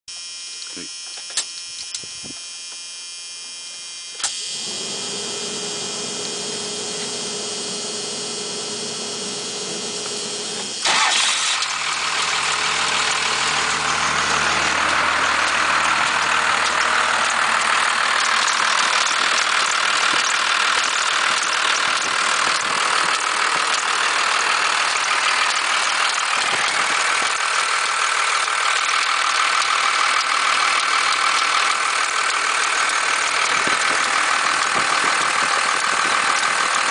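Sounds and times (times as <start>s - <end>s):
electrical whine: 0.1s - 30.5s
diesel engine starting and idling: 4.2s - 36.9s.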